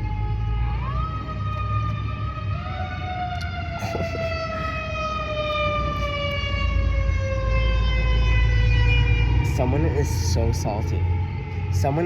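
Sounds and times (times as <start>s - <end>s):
siren wailing: 0.0s - 12.0s
steady low rumble: 0.0s - 12.0s.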